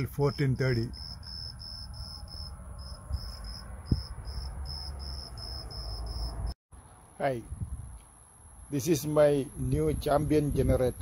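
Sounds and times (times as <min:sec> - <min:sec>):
insects chirping: 0:00.0 - 0:07.1, 0:07.9 - 0:11.0.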